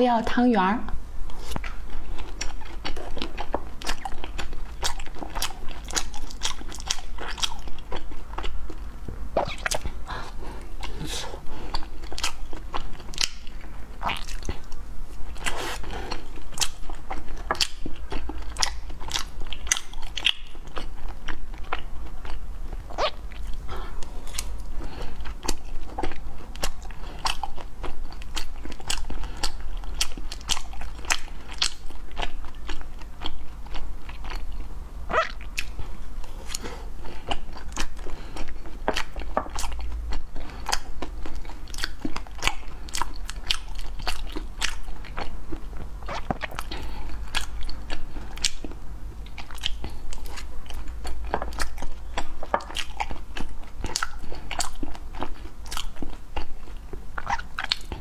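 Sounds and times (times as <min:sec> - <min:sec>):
low steady hum: 0:00.0 - 0:58.0
close chewing with mouth clicks: 0:01.2 - 0:58.0.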